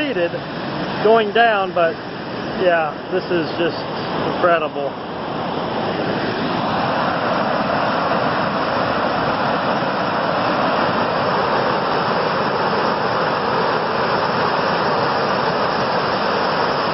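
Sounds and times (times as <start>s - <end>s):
floodwater rushing over road: 0.0s - 16.9s.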